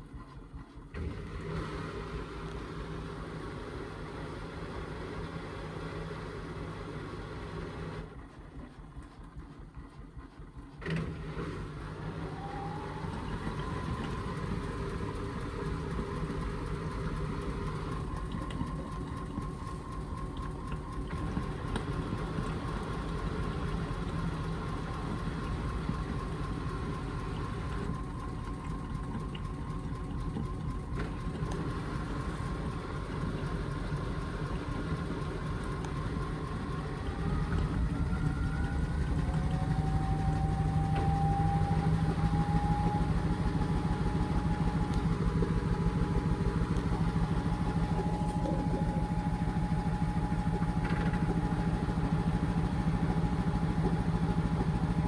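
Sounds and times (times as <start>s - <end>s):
washing machine drum whine: 8.0s - 55.0s.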